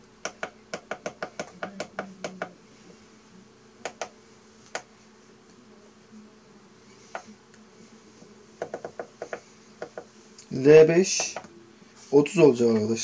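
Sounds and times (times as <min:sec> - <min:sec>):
incubator low hum: 0:00.0 - 0:13.0.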